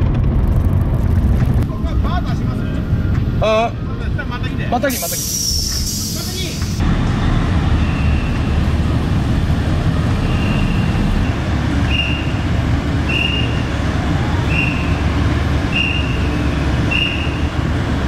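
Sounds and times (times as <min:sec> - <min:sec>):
diesel truck engine rumbling: 0:00.0 - 0:18.0.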